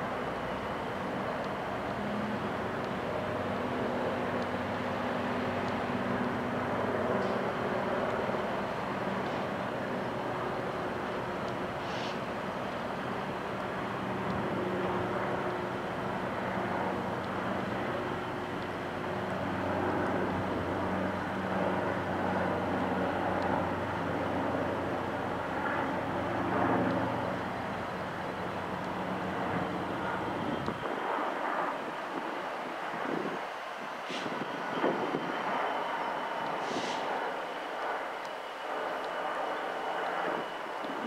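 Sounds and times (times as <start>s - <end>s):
diesel locomotive engine drone: 0.0s - 41.0s.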